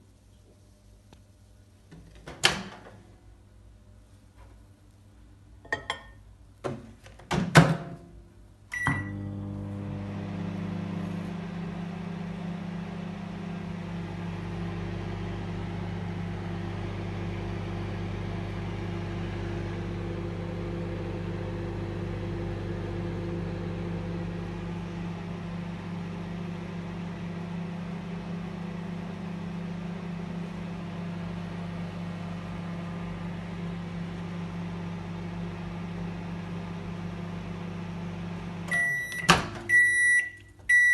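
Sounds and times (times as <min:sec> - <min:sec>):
microwave oven humming: 0:05.6 - 0:40.9.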